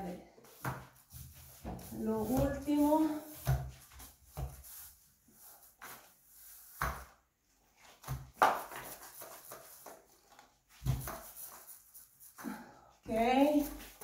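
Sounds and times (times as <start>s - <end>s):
paint roller swishing: 0.3s - 14.0s.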